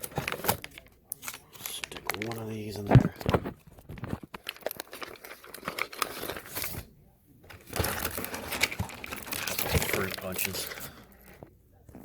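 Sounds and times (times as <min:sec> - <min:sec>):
plastic bags and foil crinkling: 0:00.0 - 0:06.9, 0:07.5 - 0:12.0.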